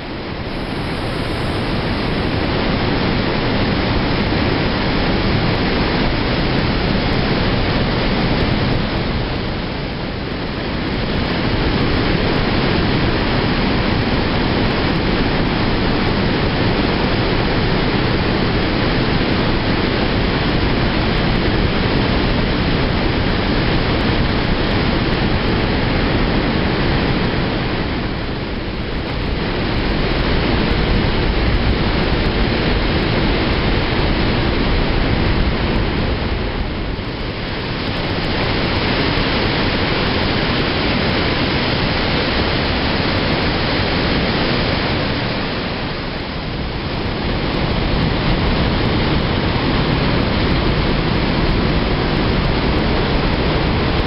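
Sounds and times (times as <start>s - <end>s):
waterfall rushing through gorge: 0.0s - 54.0s.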